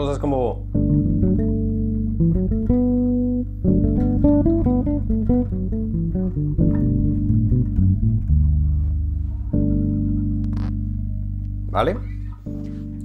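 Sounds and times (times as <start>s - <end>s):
electric bass plucked notes: 0.0s - 13.0s
looped chord: 0.0s - 13.0s.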